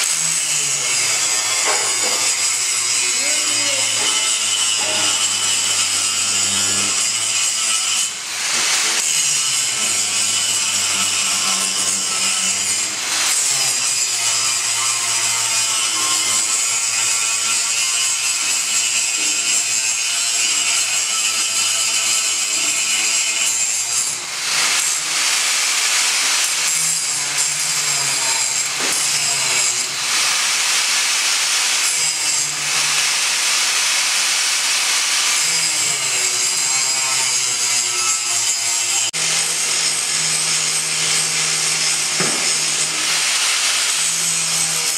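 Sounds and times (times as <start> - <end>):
plasma cutter hissing: 0.0 - 44.9.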